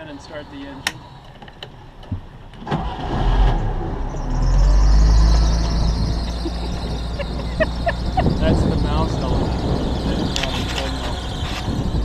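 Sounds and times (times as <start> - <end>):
boat engine starting and running: 0.0 - 12.0.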